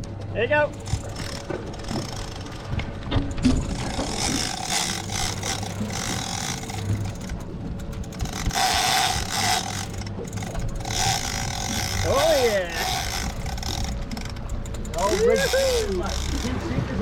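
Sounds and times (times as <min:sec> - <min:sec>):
outboard engine humming: 0:00.0 - 0:17.0
fishing reel clicker buzzing: 0:00.7 - 0:02.8, 0:03.5 - 0:16.9.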